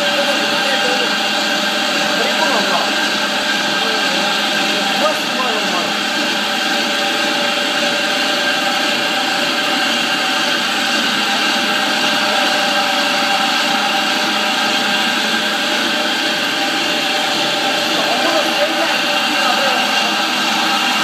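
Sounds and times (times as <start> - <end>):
floor polishing machine humming: 0.0 - 21.0.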